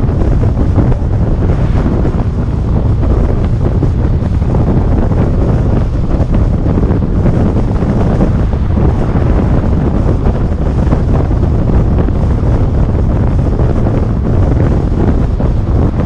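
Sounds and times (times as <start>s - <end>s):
car rumbling on road: 0.0s - 16.0s
wind buffeting microphone: 0.0s - 16.0s.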